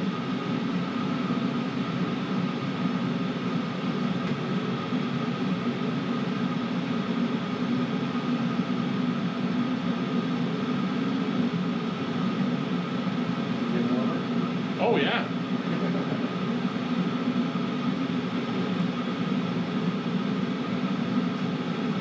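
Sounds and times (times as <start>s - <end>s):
faint steady whine: 0.0s - 22.0s
heater burner and fan whooshing: 0.0s - 22.0s.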